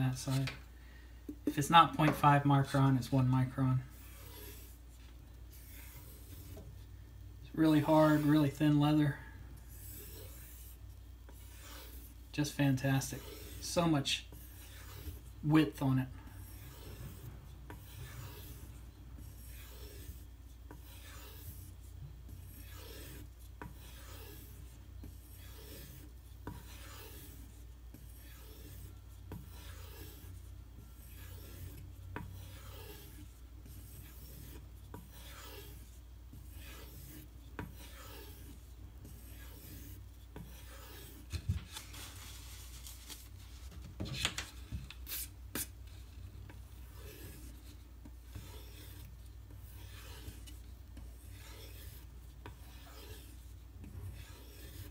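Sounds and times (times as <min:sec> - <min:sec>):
knife stropping on leather: 0:03.8 - 0:06.6, 0:09.6 - 0:15.4, 0:16.3 - 0:54.9.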